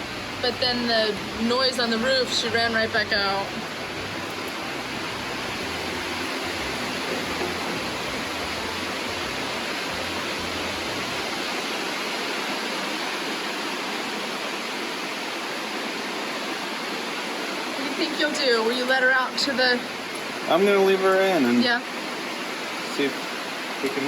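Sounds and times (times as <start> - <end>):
heavy rain on a roof: 0.0 - 24.0.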